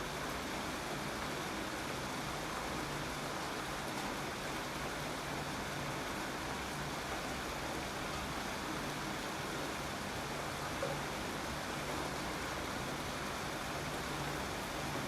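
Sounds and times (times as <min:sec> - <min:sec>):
steady rainfall: 0:00.0 - 0:15.0.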